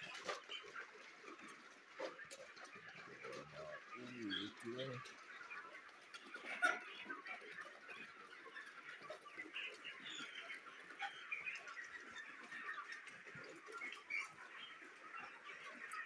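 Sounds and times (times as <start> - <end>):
chickens chirping and peeping: 0.0 - 16.0.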